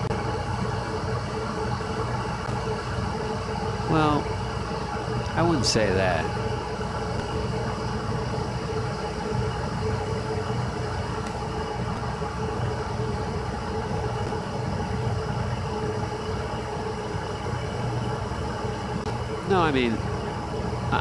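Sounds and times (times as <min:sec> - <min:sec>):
electric kettle heating water: 0:00.0 - 0:21.0.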